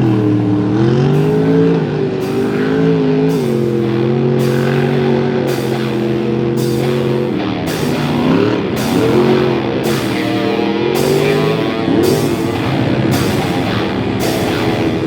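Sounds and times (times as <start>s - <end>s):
rock music: 0.0s - 15.0s
truck engine revving high: 0.0s - 15.0s.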